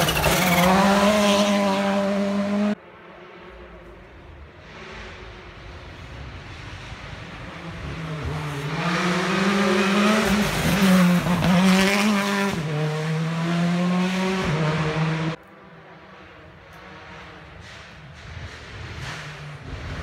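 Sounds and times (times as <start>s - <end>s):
rally car engine passing at speed: 0.0s - 20.0s.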